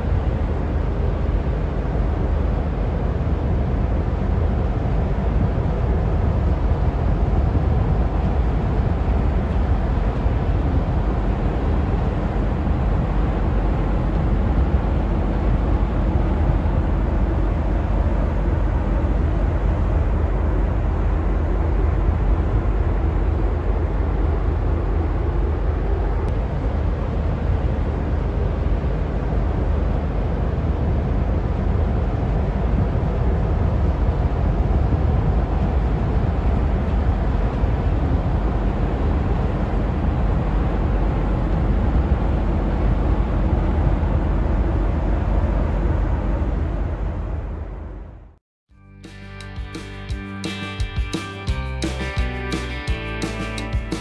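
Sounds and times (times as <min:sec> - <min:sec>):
ship engine rumble: 0:00.0 - 0:48.4.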